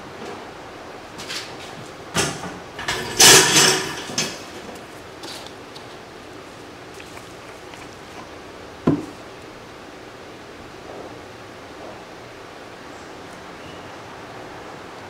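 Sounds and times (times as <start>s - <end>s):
quiet hiss: 0.0s - 15.0s.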